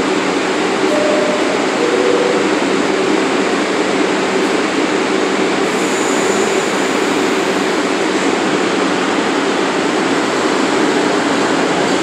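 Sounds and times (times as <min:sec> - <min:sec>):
subway train humming at platform: 0:00.0 - 0:12.0.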